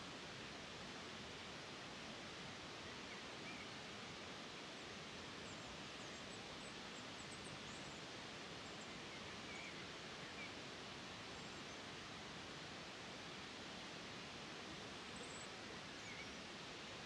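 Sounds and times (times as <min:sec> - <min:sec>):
faint outdoor ambient hiss: 0:00.0 - 0:17.0.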